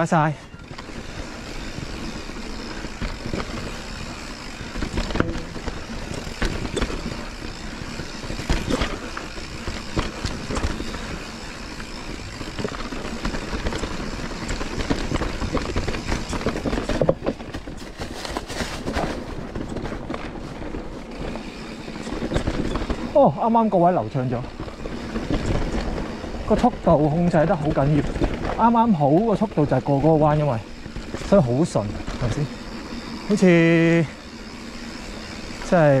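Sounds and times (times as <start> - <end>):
bike rattling over rocky trail: 0.0 - 36.0
wheels knocking on rocks: 0.1 - 36.0.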